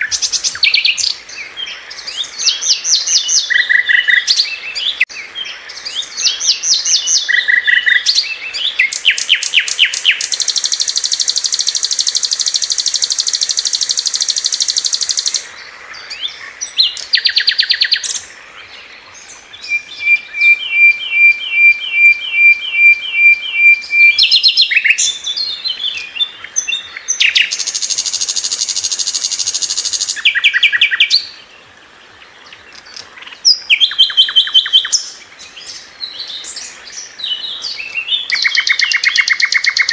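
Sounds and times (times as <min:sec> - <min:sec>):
flycatcher singing: 0:00.0 - 0:31.5, 0:32.4 - 0:39.9.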